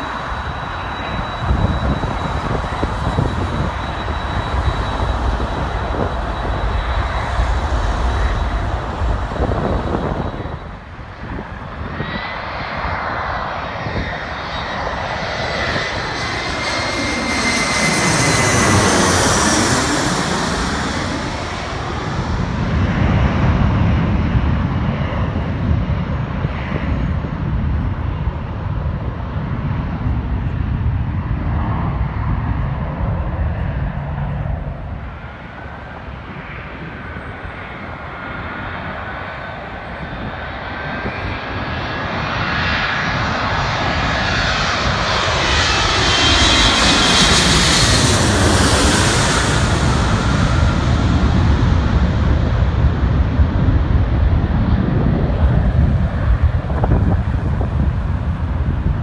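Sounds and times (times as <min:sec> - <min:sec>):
approaching jet whine: 0:00.0 - 0:59.0
jet passing low overhead: 0:00.0 - 0:59.0.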